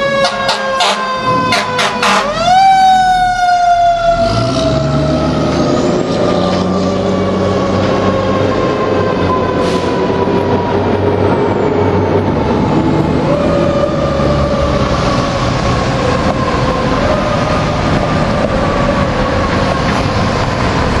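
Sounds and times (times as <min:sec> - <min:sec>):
fire engine siren: 0:00.0 - 0:21.0
road noise: 0:00.0 - 0:21.0
truck engine rumble: 0:00.0 - 0:21.0.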